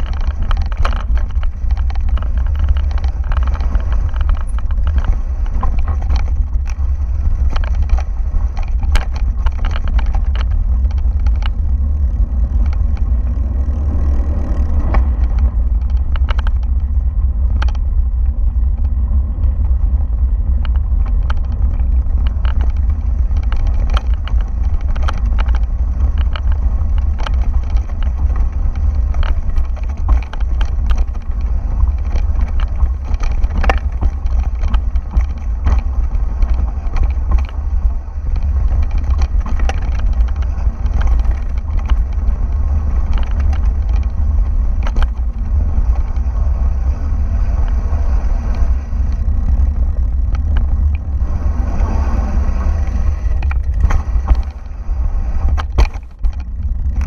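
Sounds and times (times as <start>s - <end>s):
bike knocks and rattles over stones: 0.0s - 46.7s, 53.3s - 57.0s
wind rumble on microphone: 0.0s - 57.0s.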